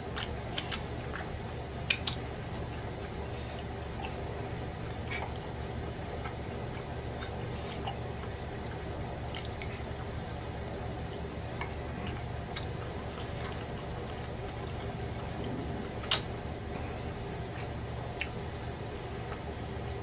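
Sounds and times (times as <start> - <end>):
person chewing and smacking lips: 0.0 - 19.6
steady low background hum: 0.0 - 20.0.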